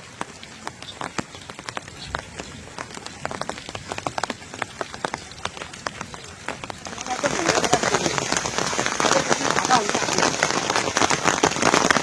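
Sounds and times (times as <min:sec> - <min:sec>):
rain drips on hard surface: 0:00.0 - 0:12.0
rainfall hiss: 0:00.0 - 0:12.0.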